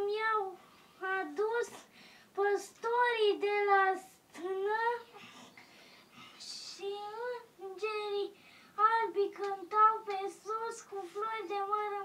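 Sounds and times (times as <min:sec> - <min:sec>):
boy singing unaccompanied: 0:00.0 - 0:05.4, 0:06.3 - 0:12.0.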